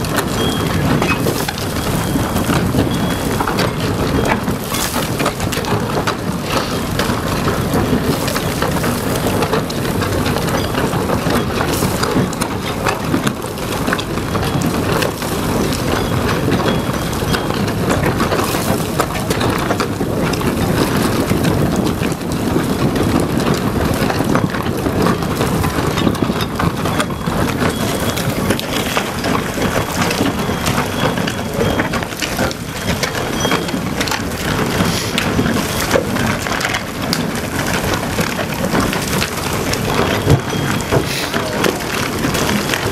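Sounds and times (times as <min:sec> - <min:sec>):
boring machine grinding rock: 0:00.0 - 0:42.9
crumbling concrete crackling: 0:00.0 - 0:42.9.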